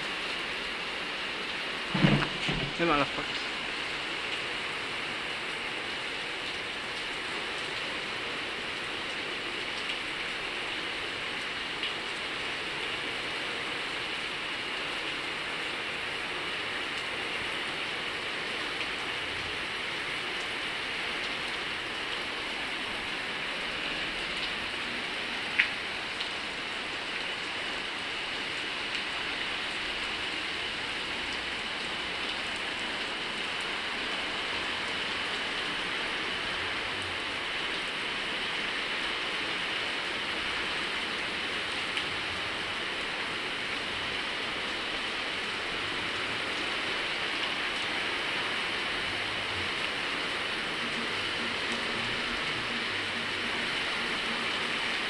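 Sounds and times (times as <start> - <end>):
torrential rain: 0.0 - 55.0.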